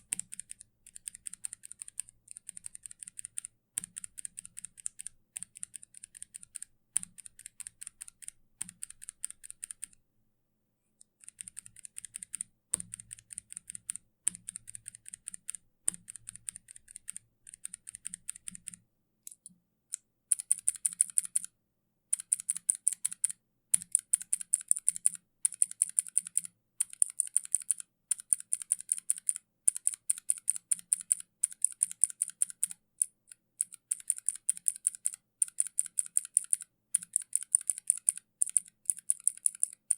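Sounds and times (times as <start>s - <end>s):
mechanical keyboard typing: 0.0s - 10.0s, 11.2s - 19.5s, 20.3s - 21.5s, 22.1s - 39.9s.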